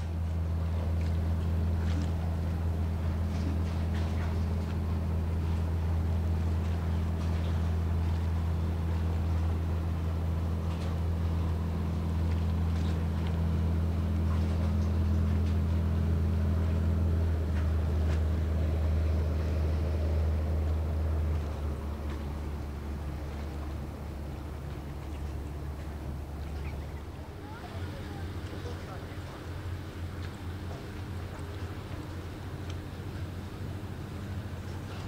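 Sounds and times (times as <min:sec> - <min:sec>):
ferry engines droning: 0:00.0 - 0:35.0.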